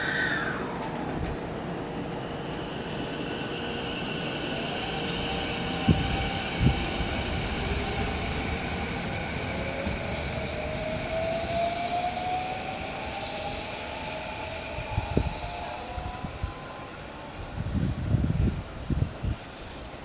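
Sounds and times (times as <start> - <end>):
electric train motors whining: 0.0 - 20.0.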